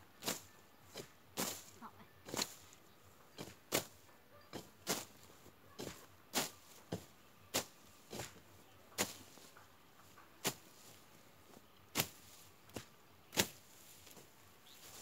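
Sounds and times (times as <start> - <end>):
blade swishing through grass: 0.2 - 9.6, 10.4 - 15.0.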